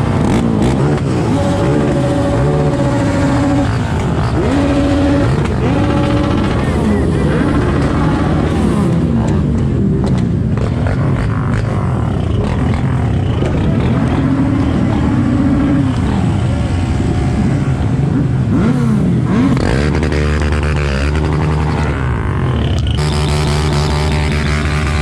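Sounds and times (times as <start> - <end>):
motorbike and quad engines revving: 0.0 - 25.0.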